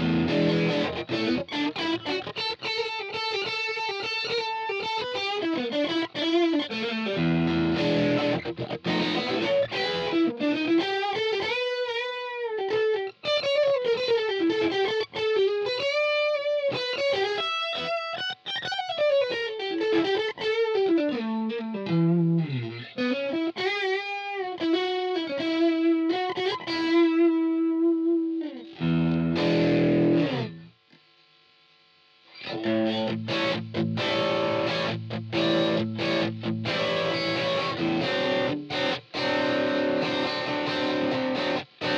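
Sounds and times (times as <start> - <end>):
distorted electric guitar lead: 0.0 - 30.8, 32.2 - 41.9
distorted guitar chords: 0.0 - 30.8, 31.5 - 41.9.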